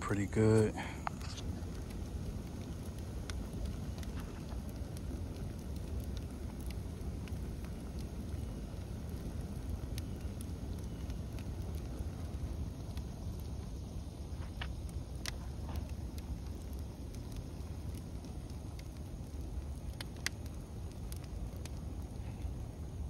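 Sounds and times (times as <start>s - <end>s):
brush pile fire crackling: 0.0s - 23.0s.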